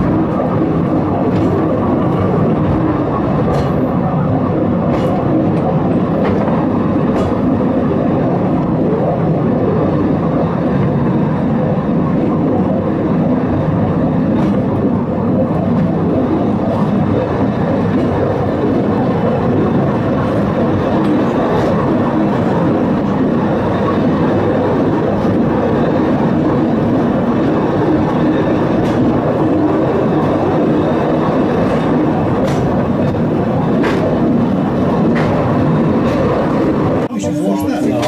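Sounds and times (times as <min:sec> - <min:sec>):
funicular car rumbling: 0:00.0 - 0:38.0.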